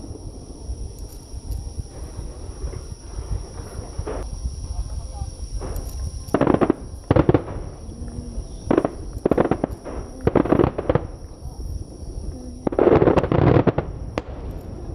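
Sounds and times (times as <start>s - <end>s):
fireworks booming in volleys: 0.0s - 14.9s.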